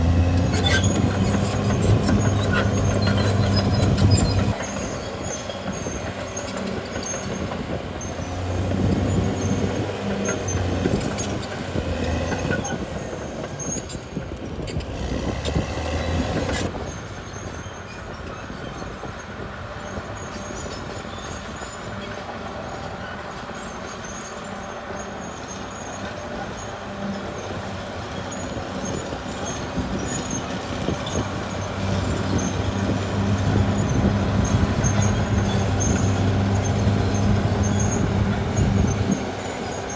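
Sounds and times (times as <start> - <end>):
bulldozer diesel engine: 0.0 - 39.9
steel tracks rattling: 0.0 - 39.9.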